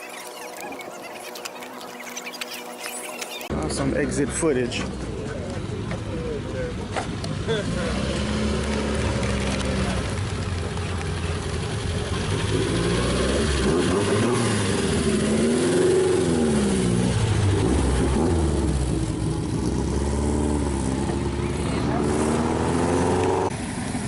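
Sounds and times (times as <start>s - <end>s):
car engines running: 0.0s - 24.0s.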